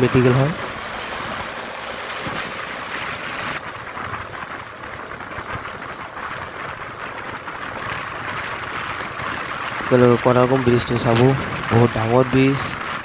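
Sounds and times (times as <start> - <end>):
motorcycle running noise: 0.0 - 13.0
wind rushing over microphone: 0.0 - 13.0.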